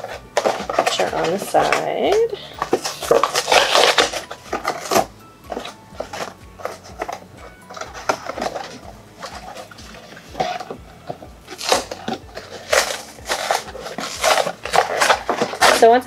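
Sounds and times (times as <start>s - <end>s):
cardboard ripping and rustling: 0.0s - 16.0s.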